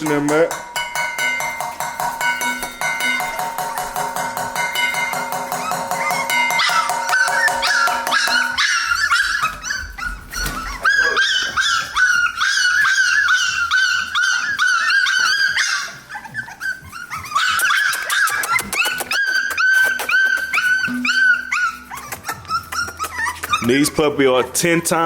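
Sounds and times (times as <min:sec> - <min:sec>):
puppies whining and yipping: 0:01.3 - 0:25.0.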